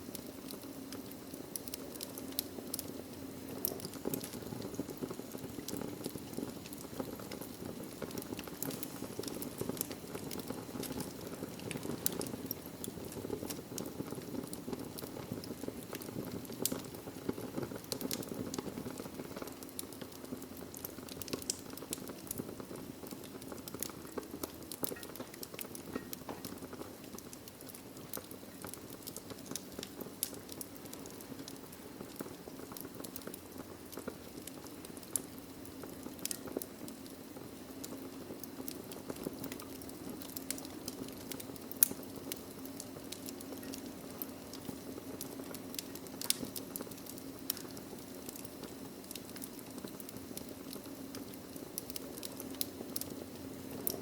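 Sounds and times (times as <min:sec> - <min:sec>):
low rush of flames: 0:00.0 - 0:54.0
wood crackling and popping: 0:00.0 - 0:54.0.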